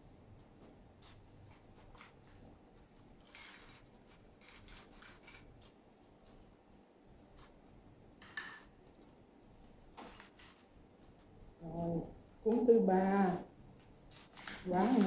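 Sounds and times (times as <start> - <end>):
clicks and crackles of eating: 0.0 - 11.6, 13.7 - 15.0.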